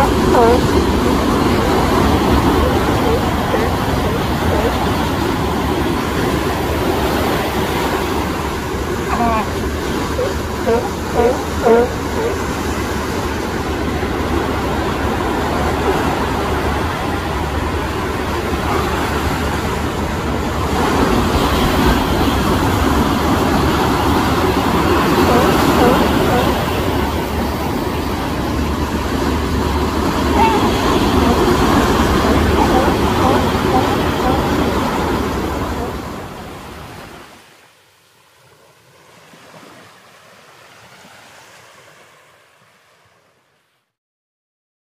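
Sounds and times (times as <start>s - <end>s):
wind on microphone: 0.0s - 37.2s
ocean waves washing ashore: 0.0s - 43.8s
surf on beach: 0.0s - 43.9s.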